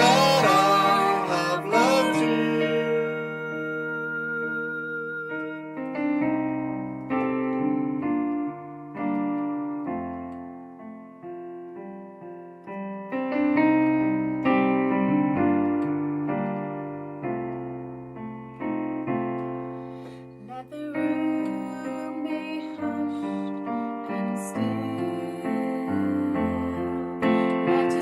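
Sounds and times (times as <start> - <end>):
piano chords: 0.0 - 28.0.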